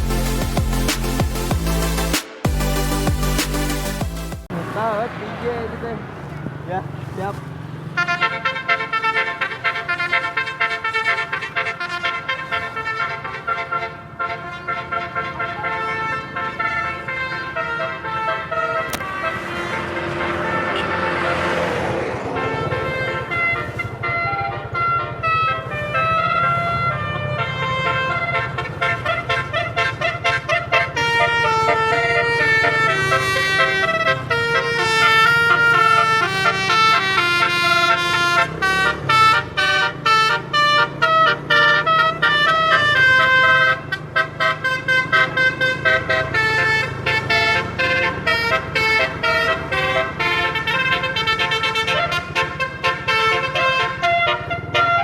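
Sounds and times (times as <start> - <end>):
bus multi-tone air horn melody: 0.0 - 4.6, 7.8 - 55.0.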